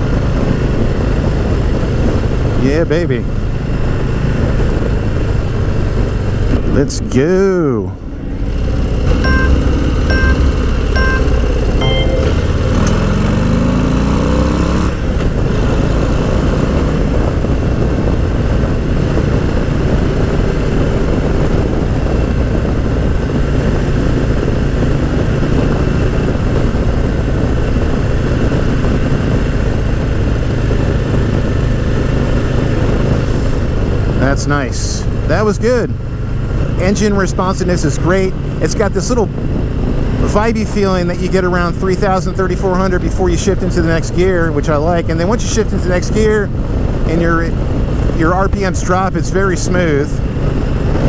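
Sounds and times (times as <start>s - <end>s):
motorcycle engine accelerating: 3.2s - 6.8s, 8.0s - 51.0s.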